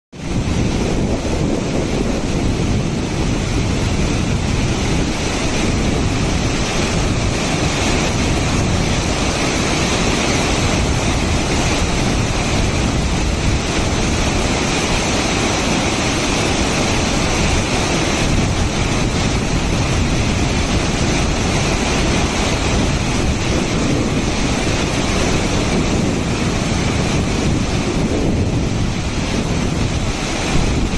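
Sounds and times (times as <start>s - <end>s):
wind on microphone: 0.1s - 30.9s
waterfall rushing: 0.2s - 30.9s.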